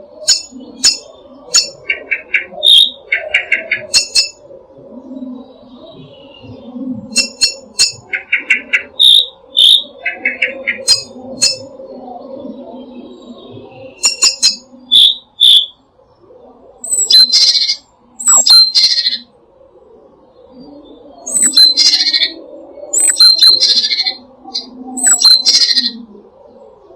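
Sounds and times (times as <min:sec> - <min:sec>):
songbirds singing and calling: 0:00.0 - 0:26.9.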